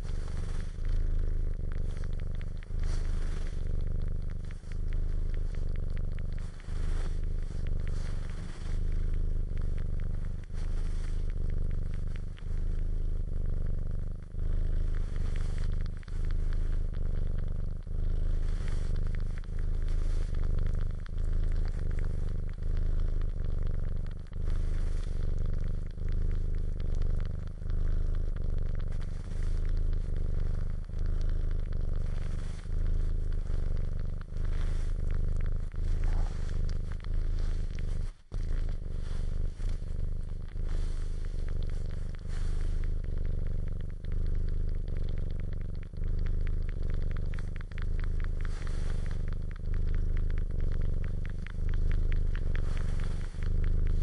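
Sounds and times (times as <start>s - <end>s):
cat purring: 0.0s - 54.0s
wet suckling and clicking: 0.0s - 54.0s.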